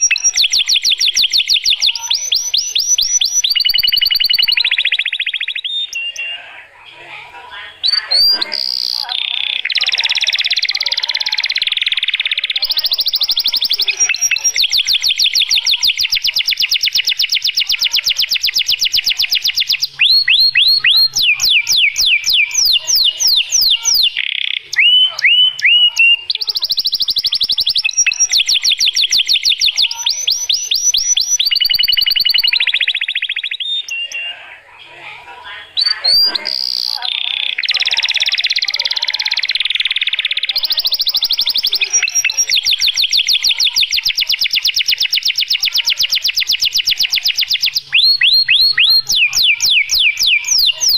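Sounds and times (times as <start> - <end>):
canary singing fast trills: 0.0 - 50.9.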